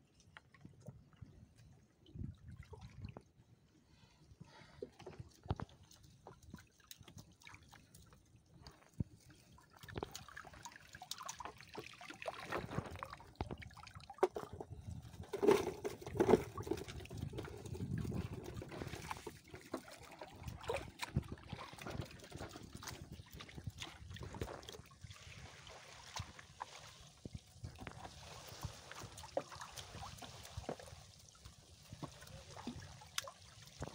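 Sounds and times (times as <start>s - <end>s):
water dripping and splashing: 4.9s - 33.9s.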